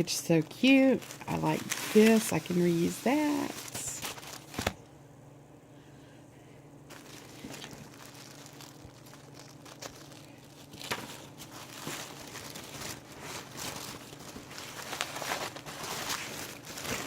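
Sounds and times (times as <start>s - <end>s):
paper and packaging rustling: 0.6s - 4.8s, 6.9s - 17.0s.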